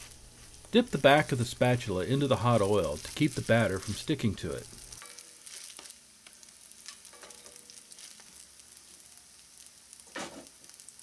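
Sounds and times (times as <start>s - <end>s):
batter frying in oil: 0.0s - 11.0s.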